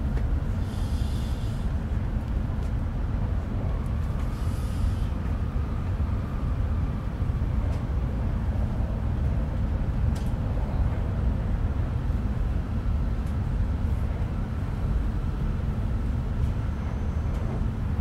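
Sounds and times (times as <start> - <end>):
train cabin low rumble: 0.0 - 18.0.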